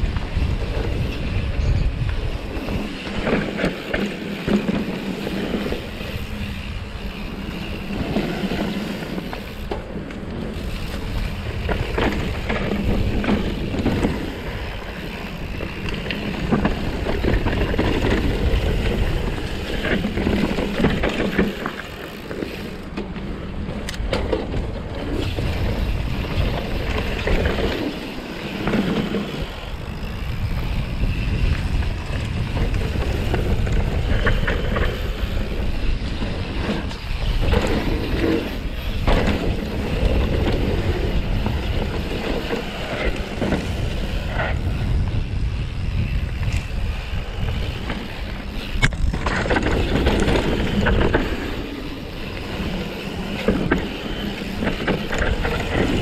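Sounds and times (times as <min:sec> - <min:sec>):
bike clattering over bumps: 0:00.0 - 0:56.0
tyres rolling over dirt: 0:00.0 - 0:56.0
wind buffeting microphone: 0:00.0 - 0:56.0.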